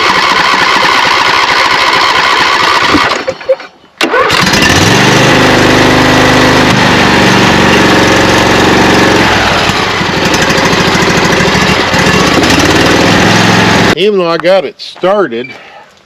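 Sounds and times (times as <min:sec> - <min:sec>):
engine misfiring roughly: 0:00.0 - 0:03.4, 0:04.0 - 0:14.0.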